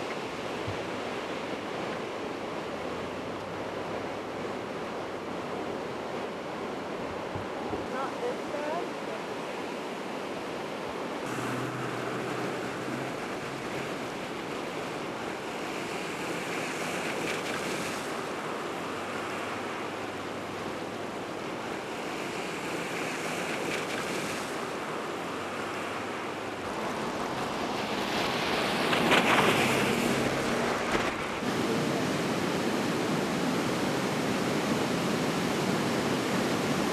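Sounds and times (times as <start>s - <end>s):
floodwater rushing: 0.0s - 36.9s.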